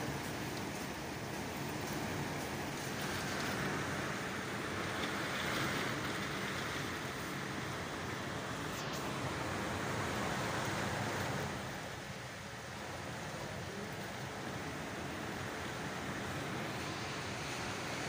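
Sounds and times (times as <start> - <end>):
heavy rain: 0.0 - 18.0
wind: 0.0 - 18.0.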